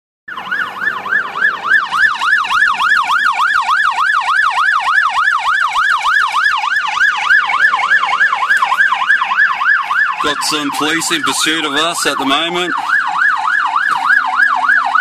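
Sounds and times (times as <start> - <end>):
police siren yelping: 0.3 - 15.0.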